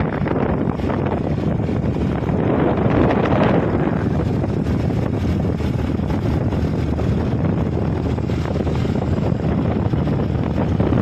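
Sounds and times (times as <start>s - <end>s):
motorbike engine running: 0.0s - 11.0s
road noise: 0.0s - 11.0s
wind rushing over microphone: 0.0s - 11.0s.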